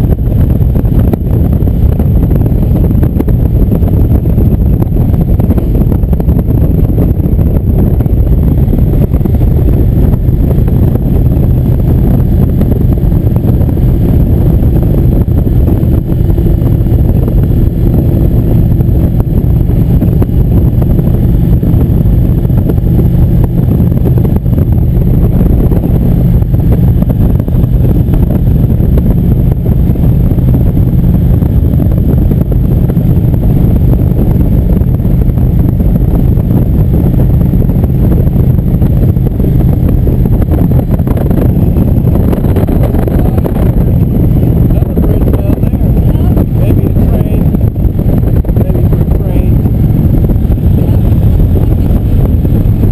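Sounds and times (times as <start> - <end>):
motorcycle engine drone: 0.0 - 52.9
wind rushing over microphone: 0.0 - 52.9.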